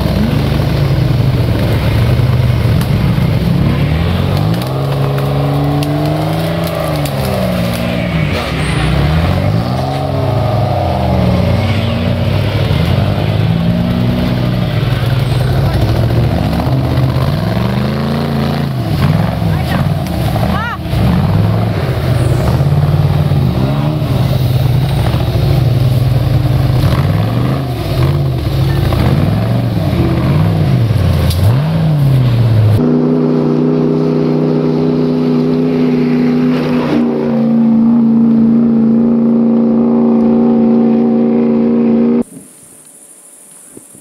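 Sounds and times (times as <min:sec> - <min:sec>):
vehicle engine revving: 0:00.0 - 0:43.2.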